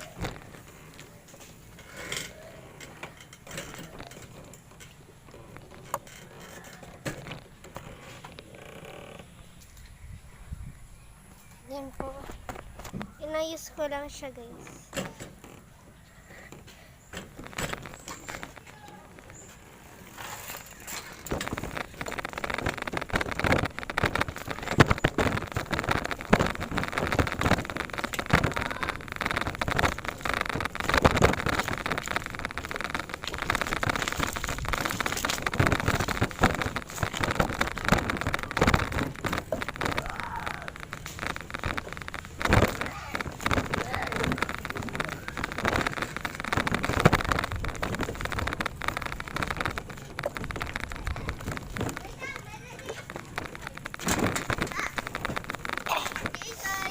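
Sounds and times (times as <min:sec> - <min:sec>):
bicycle rattling over rough surface: 0:00.0 - 0:10.0, 0:11.7 - 0:56.9.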